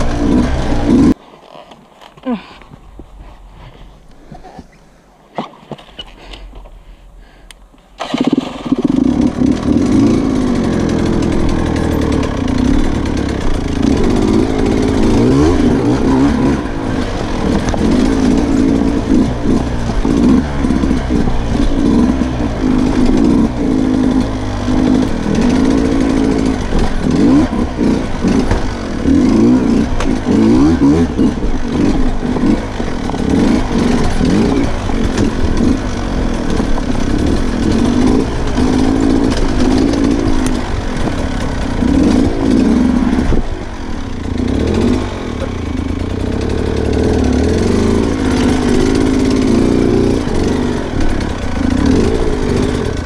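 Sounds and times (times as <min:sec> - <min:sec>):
dirt bike engine revving: 0:00.0 - 0:01.2, 0:08.0 - 0:53.0.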